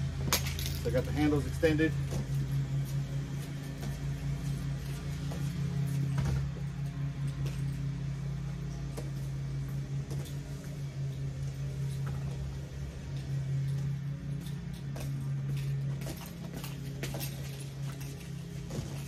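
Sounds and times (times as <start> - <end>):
speaker wheels rolling on concrete: 0.0 - 19.0
steady low hum: 0.0 - 19.0.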